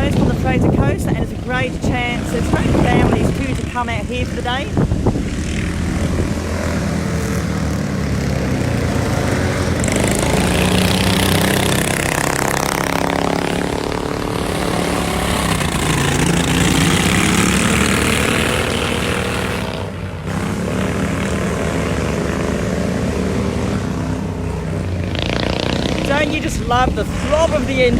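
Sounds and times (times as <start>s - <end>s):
lawn mower engines racing: 0.0s - 27.9s.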